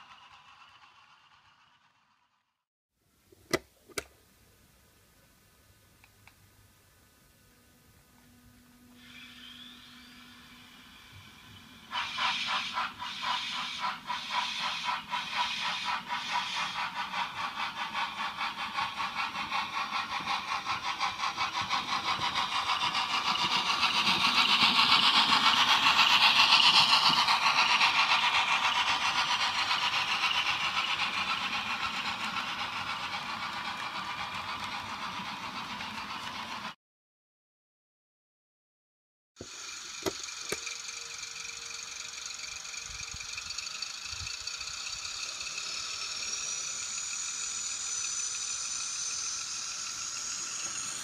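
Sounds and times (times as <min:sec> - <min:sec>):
model train rattling on track: 0:00.0 - 0:02.5, 0:09.1 - 0:36.8, 0:39.4 - 0:51.0.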